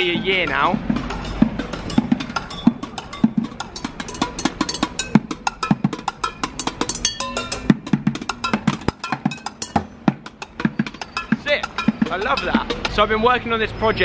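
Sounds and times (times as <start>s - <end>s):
drumsticks beating buckets and pans: 0.0s - 13.2s.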